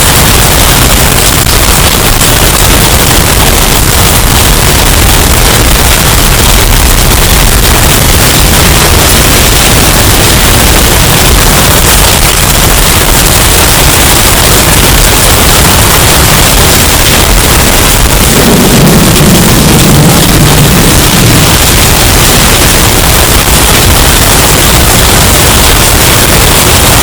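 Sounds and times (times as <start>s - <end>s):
roaring storm wind: 0.0s - 27.0s.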